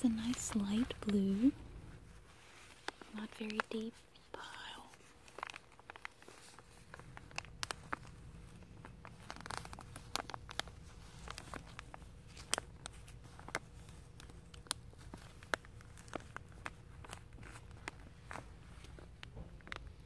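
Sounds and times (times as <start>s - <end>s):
low steady hum: 0.0s - 20.0s
plastic sheeting crinkling: 0.0s - 20.0s.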